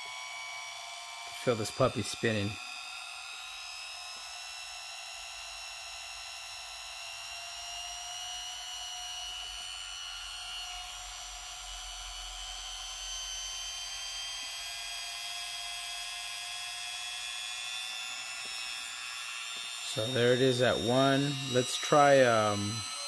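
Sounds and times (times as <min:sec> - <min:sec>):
rotary tool motor whine: 0:00.0 - 0:23.0.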